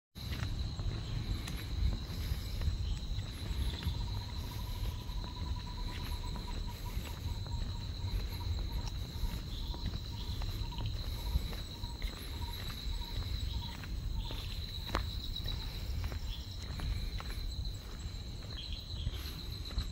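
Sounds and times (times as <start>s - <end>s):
insects chirring high drone: 0.2s - 19.9s
rapidly pulsing insect chirp: 0.2s - 19.9s.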